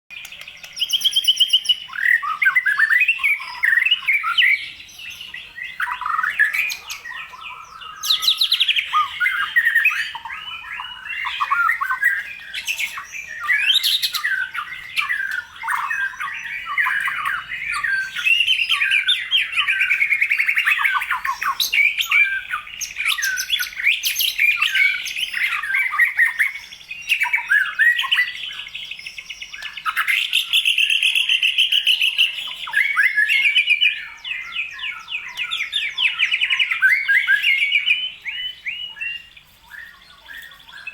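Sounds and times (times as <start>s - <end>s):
bird singing whistles and trills: 0.1s - 40.9s.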